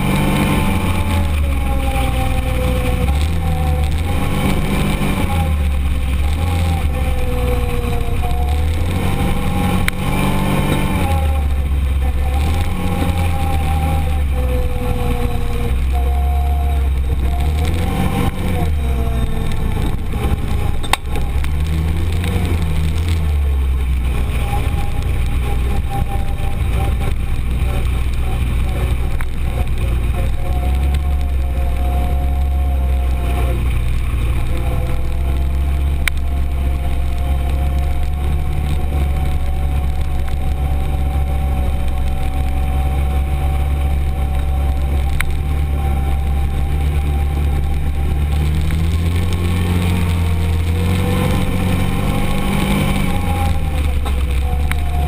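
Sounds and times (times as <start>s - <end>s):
sharp clicks from rough ride: 0.0s - 55.0s
utility vehicle engine running: 0.0s - 55.0s.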